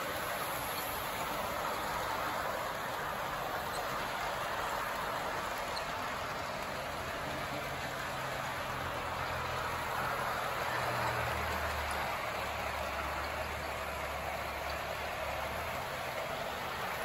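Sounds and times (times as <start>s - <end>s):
model train whirring rumble: 0.0s - 17.0s.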